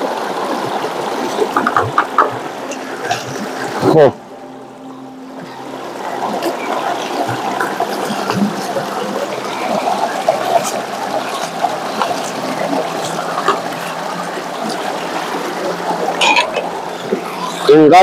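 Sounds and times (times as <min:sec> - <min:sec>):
river water trickling: 0:00.0 - 0:18.0.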